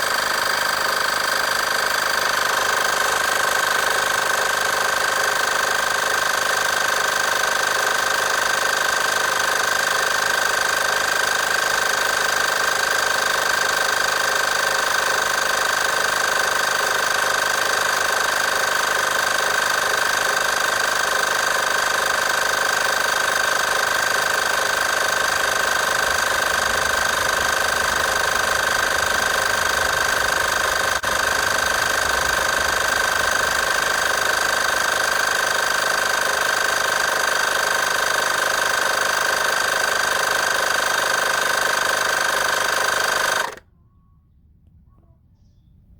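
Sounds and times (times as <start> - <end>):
air compressor buzzing: 0.0 - 43.6.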